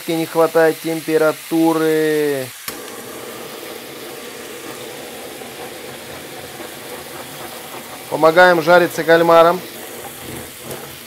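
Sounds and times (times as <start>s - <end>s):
blowtorch hissing flame: 0.0s - 11.0s
squid sizzling in oil: 0.0s - 11.0s.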